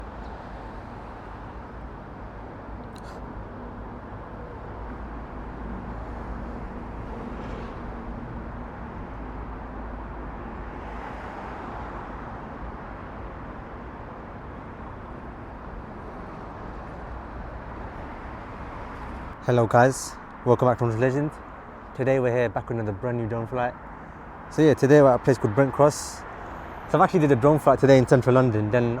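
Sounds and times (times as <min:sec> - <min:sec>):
road traffic rumble and hiss: 0:00.0 - 0:29.0.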